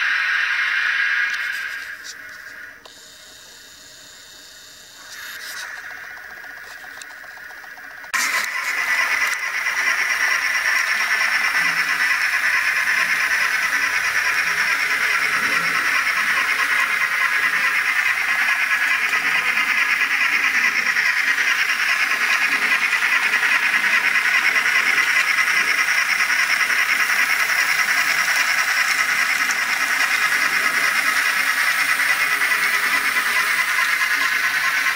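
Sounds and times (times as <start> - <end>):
model train steam hiss and chuff: 0.0 - 3.6, 5.0 - 34.9.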